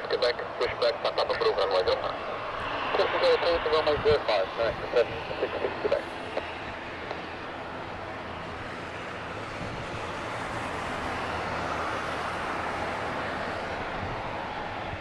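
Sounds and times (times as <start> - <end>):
distant jet engines running: 0.0 - 15.0.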